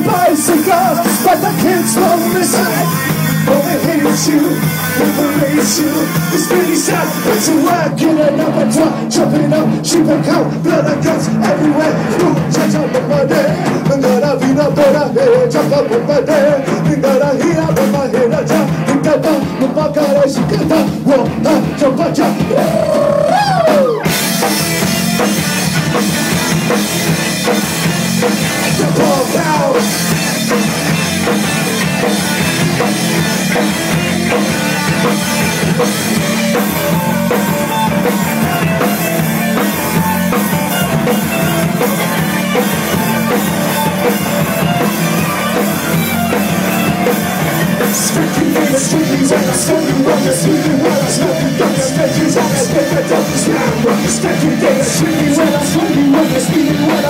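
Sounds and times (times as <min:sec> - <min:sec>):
drum kit: 0:00.0 - 0:57.0
rock band playing: 0:00.0 - 0:57.0.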